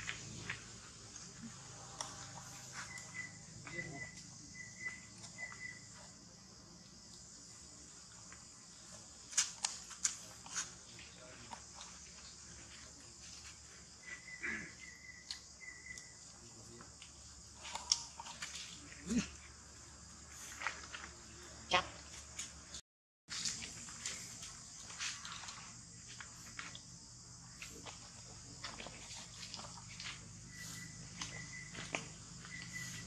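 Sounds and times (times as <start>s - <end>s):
insect drone: 0.0s - 33.0s.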